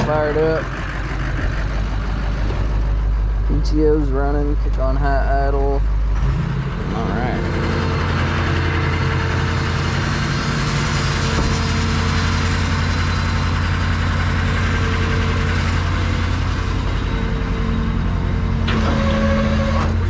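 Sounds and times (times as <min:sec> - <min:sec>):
hydraulic hum and whine: 0:00.0 - 0:20.0
truck engine at high idle: 0:00.0 - 0:20.0.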